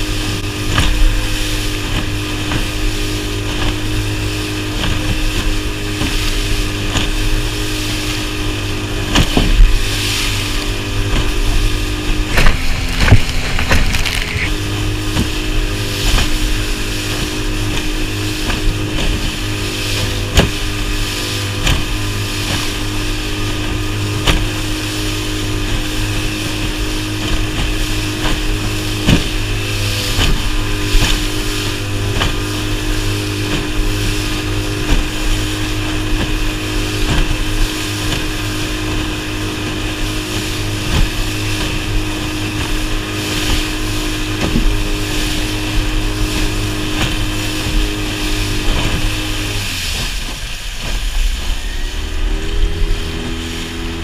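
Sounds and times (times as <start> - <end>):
hull slamming into waves: 0.0 - 54.0
outboard motor running: 0.0 - 54.0
water rushing and spraying: 0.0 - 54.0.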